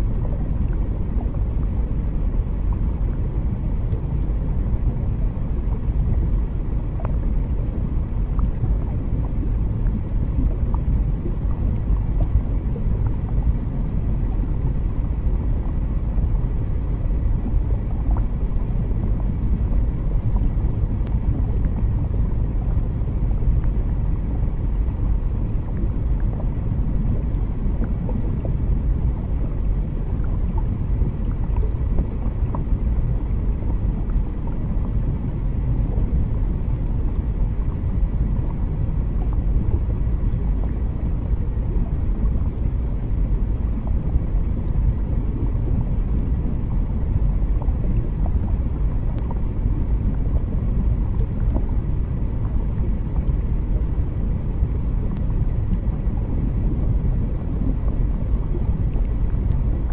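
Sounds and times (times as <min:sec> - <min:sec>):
underwater rumble: 0:00.0 - 0:59.9.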